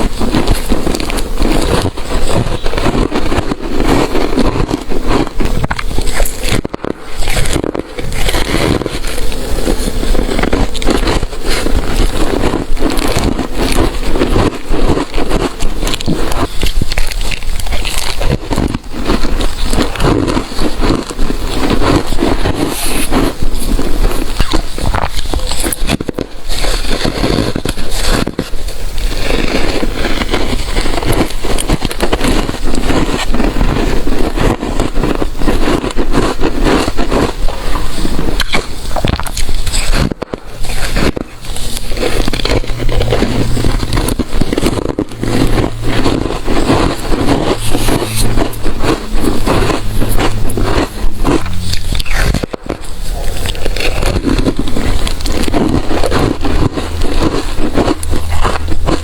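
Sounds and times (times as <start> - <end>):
crunching and chewing ice: 0.0 - 59.0.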